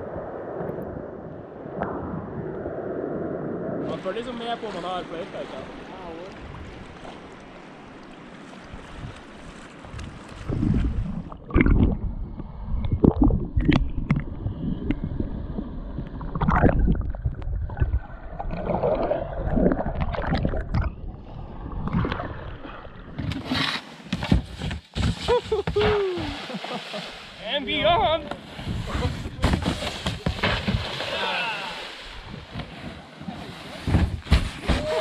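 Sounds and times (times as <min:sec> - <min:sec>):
water splashing around a kayak: 0:03.8 - 0:35.0.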